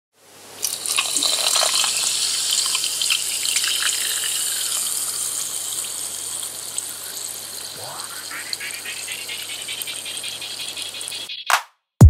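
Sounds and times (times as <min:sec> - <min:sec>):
running splashing water: 0:00.6 - 0:11.3.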